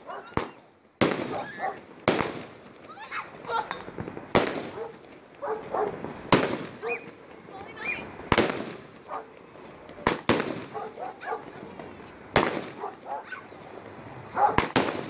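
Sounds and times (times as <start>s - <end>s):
fireworks bangs overhead: 0.0s - 15.0s.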